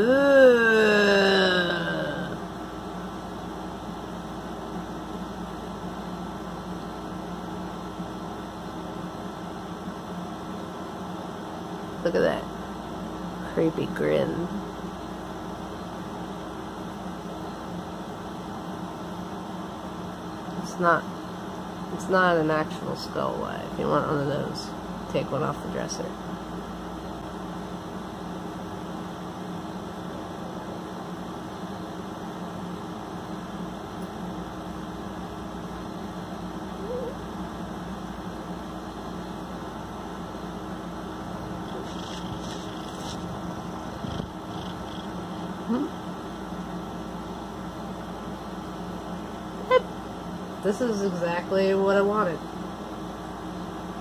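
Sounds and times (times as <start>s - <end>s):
constant hiss: 0.0s - 54.0s
low electrical hum: 0.0s - 54.0s.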